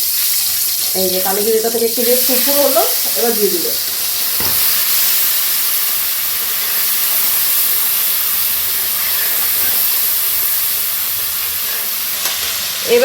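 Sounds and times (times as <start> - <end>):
water sizzling in hot oil: 0.0 - 13.0.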